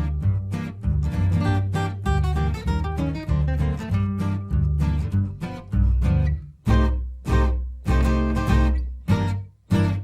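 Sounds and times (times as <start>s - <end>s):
strong bass: 0.0s - 10.0s
strummed guitar chords: 0.0s - 10.0s.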